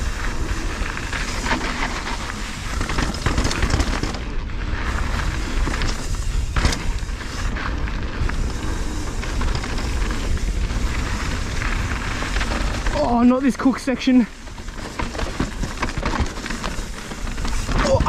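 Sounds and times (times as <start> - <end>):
bike rattling over bumps: 0.0 - 18.0
tyres rumbling over dirt: 0.0 - 18.0.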